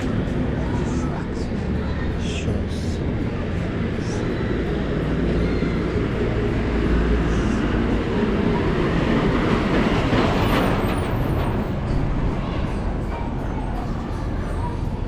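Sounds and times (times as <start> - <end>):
street noise: 0.0 - 15.0
vehicle traffic rumble: 0.0 - 15.0.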